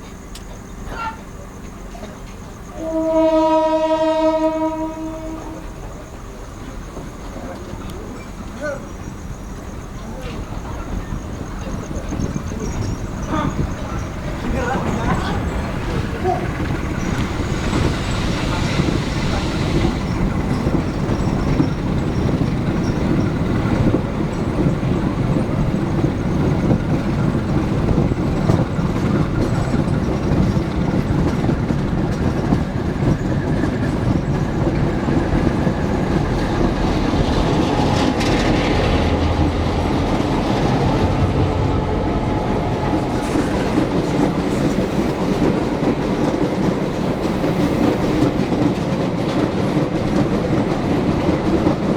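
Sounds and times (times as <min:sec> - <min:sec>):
train rolling rumble: 0:00.0 - 0:51.9
wheels clacking over rail joints: 0:03.7 - 0:51.9.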